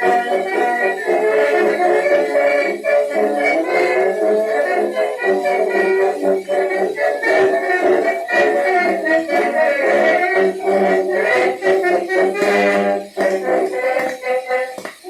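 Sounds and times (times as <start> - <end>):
brass band playing a march: 0.0 - 15.0.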